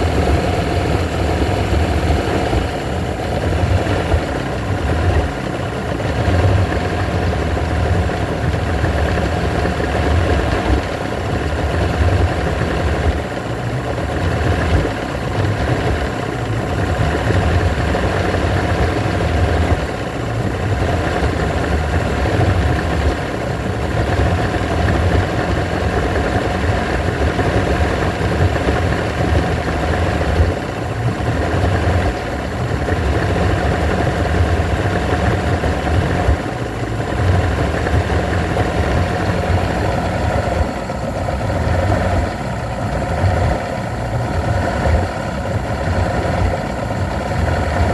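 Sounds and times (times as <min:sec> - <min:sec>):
outboard motor idling rough: 0:00.0 - 0:47.9.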